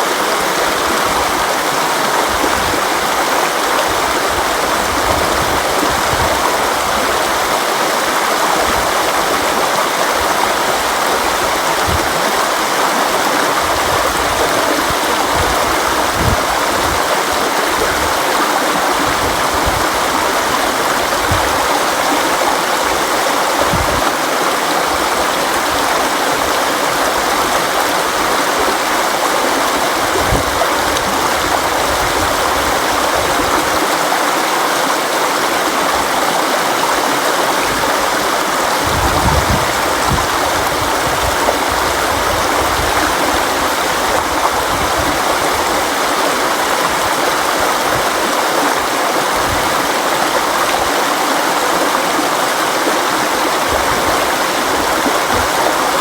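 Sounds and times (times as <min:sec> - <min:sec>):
low water gurgles: 0:00.0 - 0:56.0
river water over rocks: 0:00.0 - 0:56.0.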